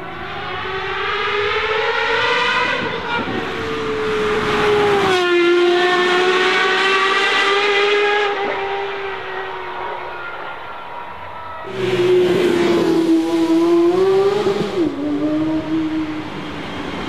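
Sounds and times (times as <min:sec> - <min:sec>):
car engine accelerating at high revs: 0:00.0 - 0:09.8, 0:11.7 - 0:16.8.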